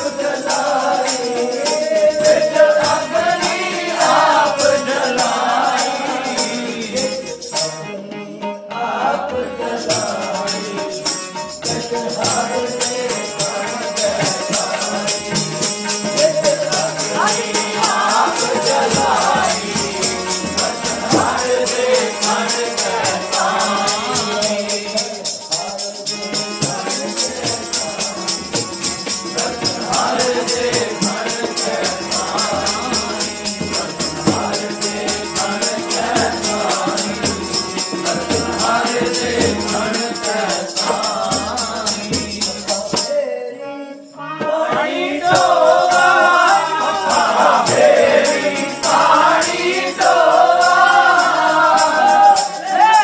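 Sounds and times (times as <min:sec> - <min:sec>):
jingling percussion beat: 0:00.0 - 0:07.9, 0:09.3 - 0:43.2, 0:44.1 - 0:53.0
harmonium: 0:00.0 - 0:53.0
voices singing a hymn: 0:00.0 - 0:53.0.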